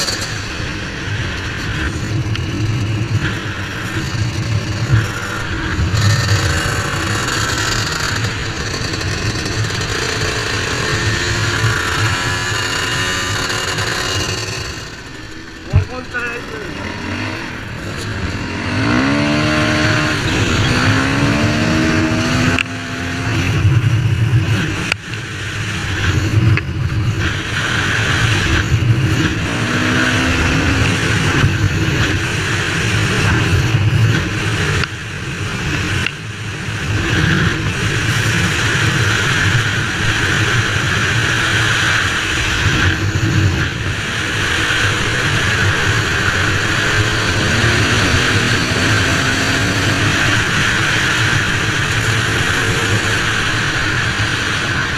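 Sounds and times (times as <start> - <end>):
motocross engine revving: 0.0 - 34.9, 36.8 - 54.9.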